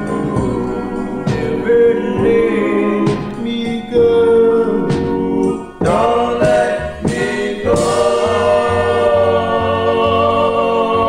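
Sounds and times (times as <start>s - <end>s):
vocal group singing in close harmony: 0.0s - 11.0s.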